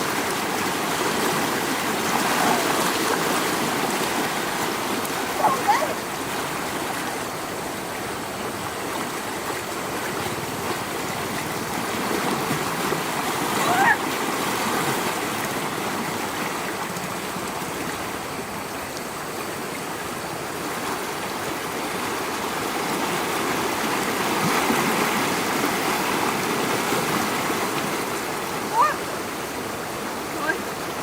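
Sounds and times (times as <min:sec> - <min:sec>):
rushing floodwater: 0:00.0 - 0:31.0.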